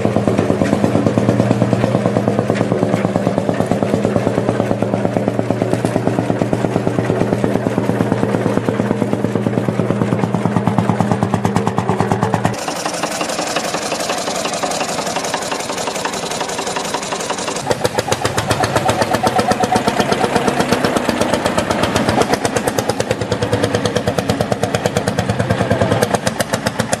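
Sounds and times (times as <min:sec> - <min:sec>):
engine knocking rhythmically: 0:00.0 - 0:27.0.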